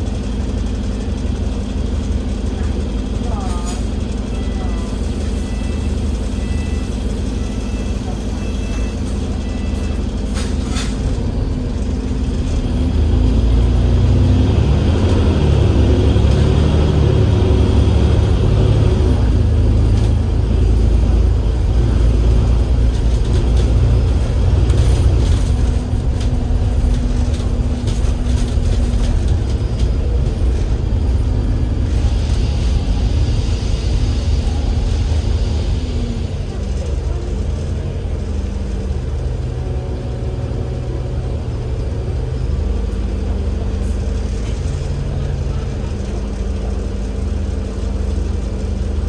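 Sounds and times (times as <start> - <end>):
bus diesel engine drone: 0.0 - 49.0
road noise: 0.0 - 49.0.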